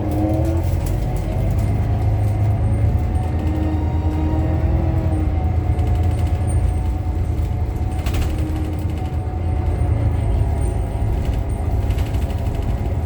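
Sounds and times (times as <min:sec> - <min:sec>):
bus cabin low rumble: 0:00.0 - 0:13.0.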